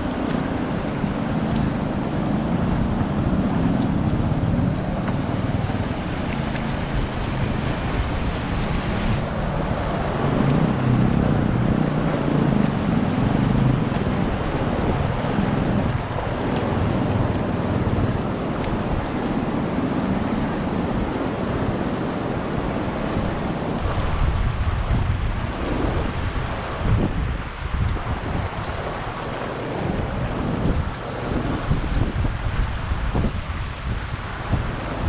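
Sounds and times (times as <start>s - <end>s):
stream rushing over rocks: 0.0s - 35.0s
wind buffeting microphone: 0.0s - 35.0s.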